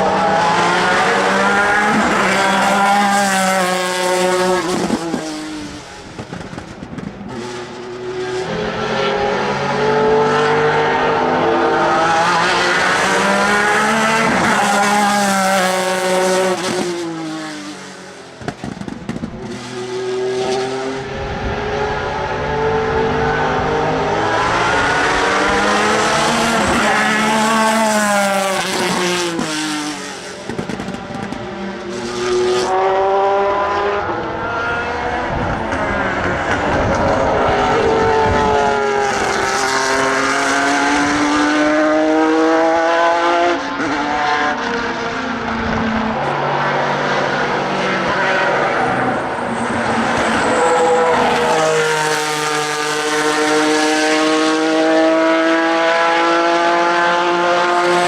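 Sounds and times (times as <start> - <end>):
racing engine revving: 0.0 - 17.9, 18.5 - 58.0.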